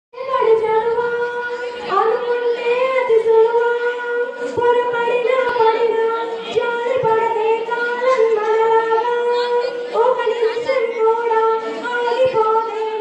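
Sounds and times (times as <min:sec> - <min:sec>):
girl singing into microphone: 0:00.2 - 0:13.0.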